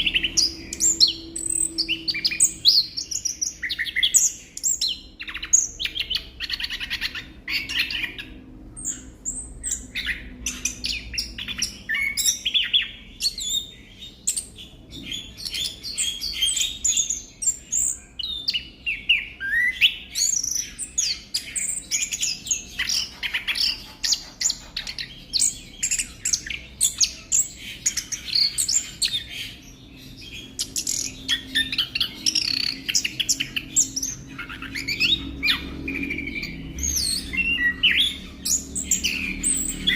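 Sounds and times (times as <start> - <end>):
thrush singing chirps and whistles: 0.0 - 39.9.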